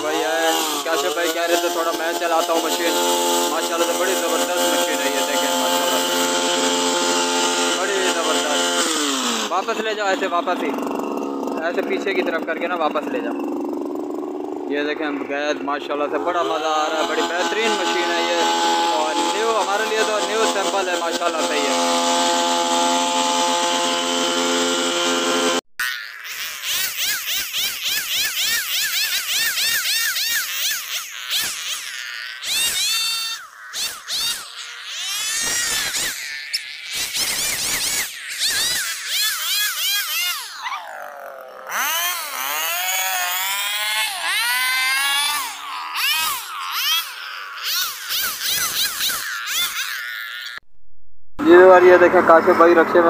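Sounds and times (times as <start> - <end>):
hedge trimmer engine running: 0.0 - 50.6.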